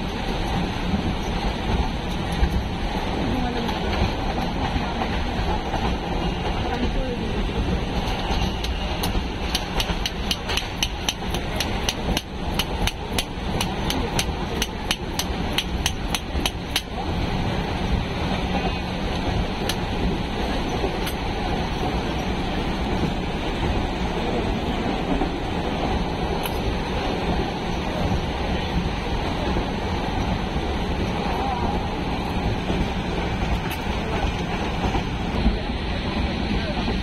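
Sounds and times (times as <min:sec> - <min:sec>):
train carriage running noise: 0:00.0 - 0:37.0.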